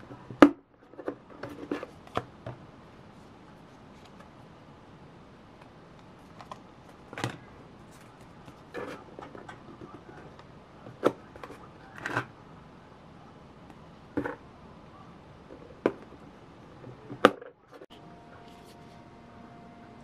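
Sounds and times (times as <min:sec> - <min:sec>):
faint steady tone: 0:02.8 - 0:20.0.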